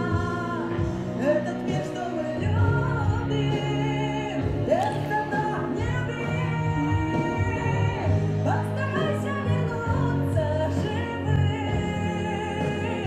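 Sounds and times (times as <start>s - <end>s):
instrumental backing track: 0.0s - 13.0s.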